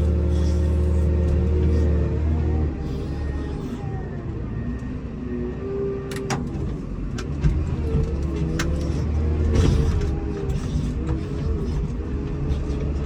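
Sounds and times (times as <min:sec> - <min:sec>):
wheel loader diesel engine: 0:00.0 - 0:13.0.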